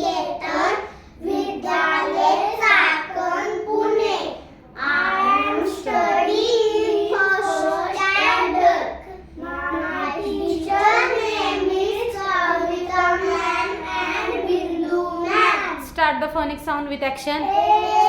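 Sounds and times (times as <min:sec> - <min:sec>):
young children singing: 0:00.0 - 0:15.8.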